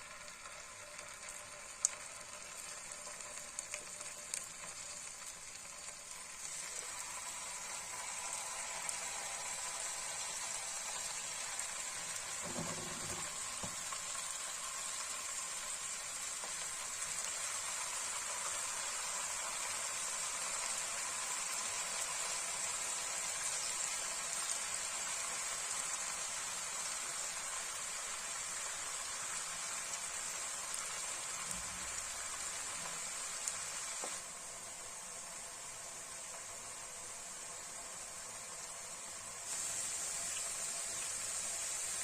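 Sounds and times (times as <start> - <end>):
fries sizzling in hot oil: 0.0 - 42.0.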